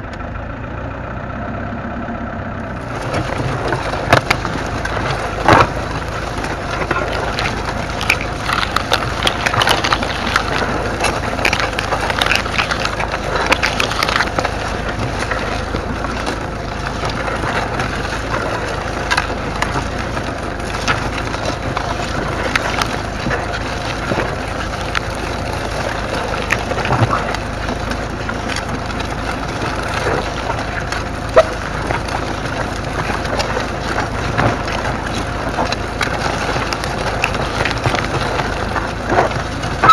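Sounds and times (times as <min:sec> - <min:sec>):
plough scraping through soil: 0:02.7 - 0:39.9.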